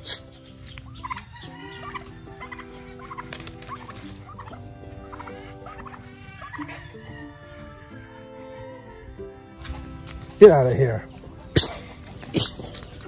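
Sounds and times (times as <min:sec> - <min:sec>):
background music: 0:00.0 - 0:13.0
turkey gobbling: 0:00.0 - 0:13.0.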